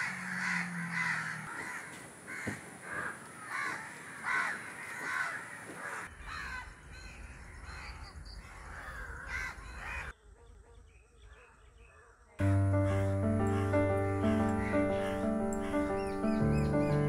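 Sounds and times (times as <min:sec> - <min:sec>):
crows cawing: 0:00.0 - 0:10.1, 0:12.0 - 0:17.0.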